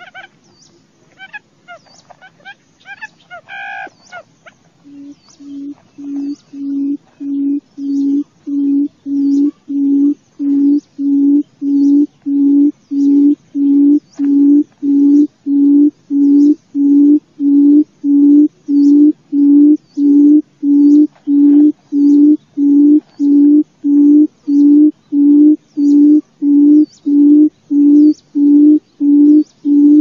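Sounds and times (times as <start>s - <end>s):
bird's low booming hoots: 4.8s - 30.0s.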